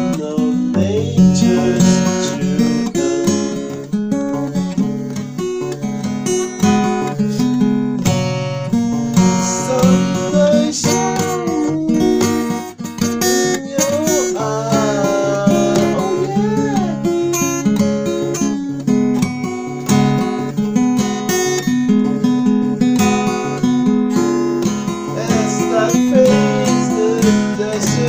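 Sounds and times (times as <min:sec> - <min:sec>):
strummed acoustic guitar chords: 0:00.0 - 0:28.0.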